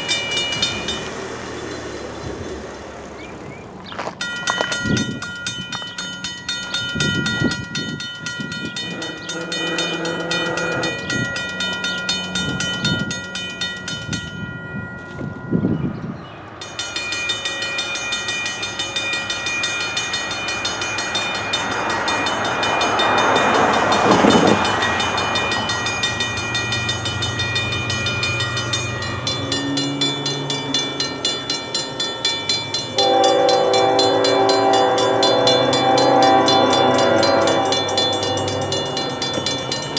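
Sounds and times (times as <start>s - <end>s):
railroad crossing bell ringing: 0.0s - 39.9s
train passing: 0.0s - 39.9s.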